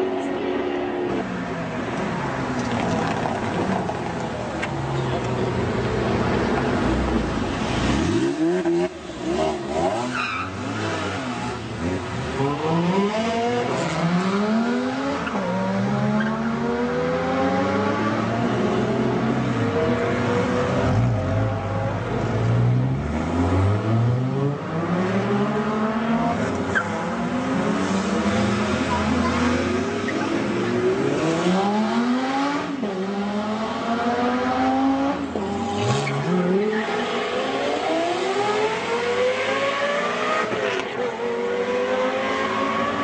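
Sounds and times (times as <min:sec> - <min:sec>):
supercar engines revving: 0:00.0 - 0:43.0.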